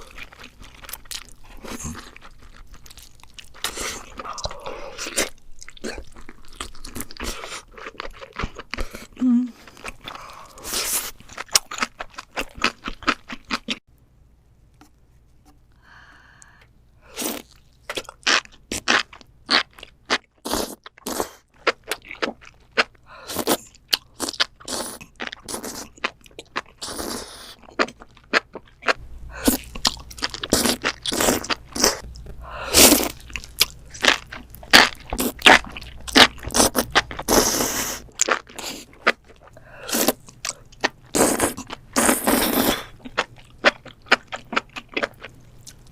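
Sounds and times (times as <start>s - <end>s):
crunching and chewing crisp food: 0.0s - 13.8s, 17.1s - 45.9s.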